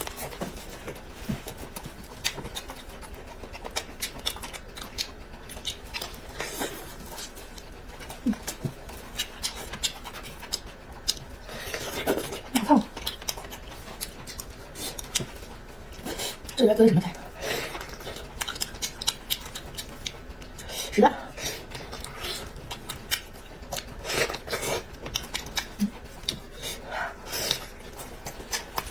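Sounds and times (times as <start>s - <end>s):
chewing with wet mouth clicks: 0.0s - 28.9s.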